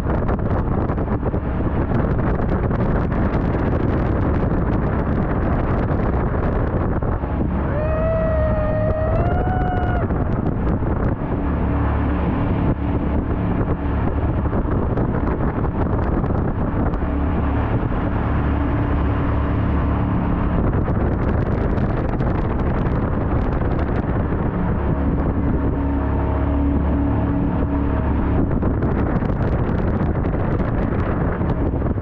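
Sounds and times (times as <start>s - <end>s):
boat engine droning: 0.0s - 32.0s
wind buffeting microphone: 0.0s - 32.0s.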